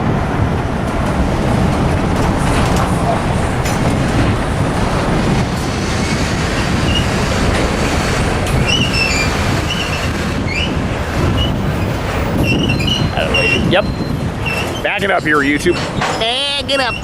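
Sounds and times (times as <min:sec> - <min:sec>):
steel wheels rumbling on rails: 0:00.0 - 0:17.0
high wheel squeals: 0:02.5 - 0:17.0.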